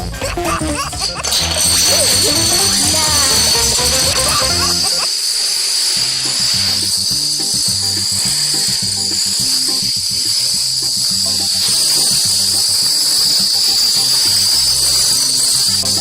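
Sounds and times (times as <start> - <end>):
bouncing low notes music: 0.0 - 5.0, 6.0 - 16.0
steady high hiss: 0.6 - 16.0.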